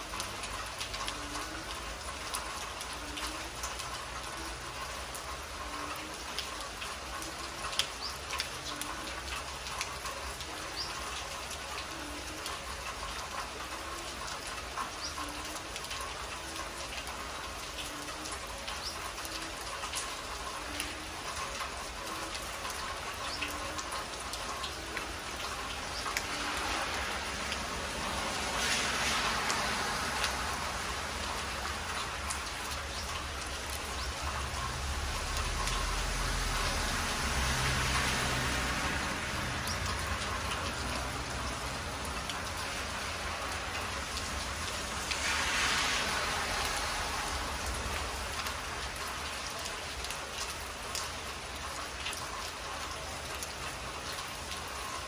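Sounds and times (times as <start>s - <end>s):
close water drips: 0.0s - 55.0s
heavy rain on concrete and trees: 0.0s - 55.0s.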